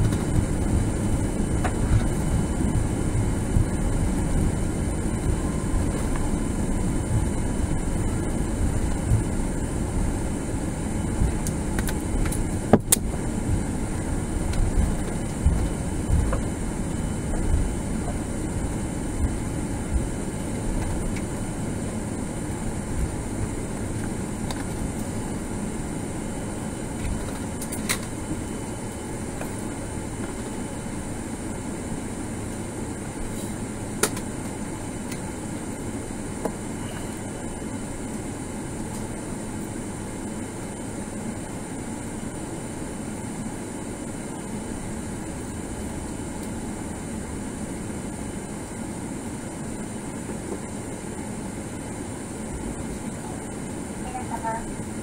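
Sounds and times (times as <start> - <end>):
airflow hiss: 0.0 - 55.0
rumble of wheels and engines: 0.0 - 55.0.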